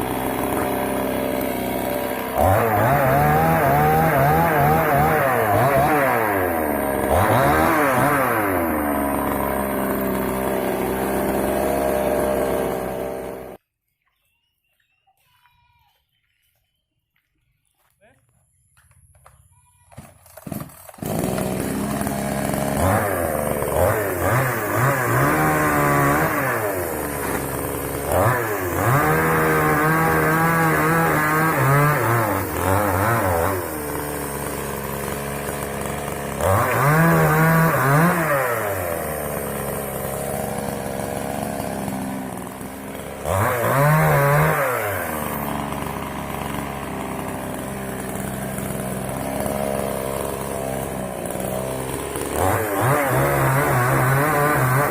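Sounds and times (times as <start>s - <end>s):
two-stroke chainsaw revving: 0.0s - 13.6s, 20.2s - 54.9s.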